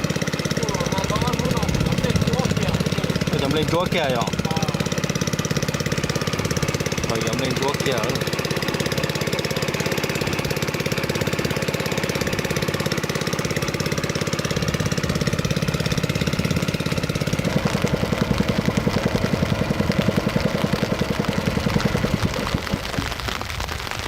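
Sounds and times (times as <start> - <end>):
small boat engine running: 0.0 - 24.0.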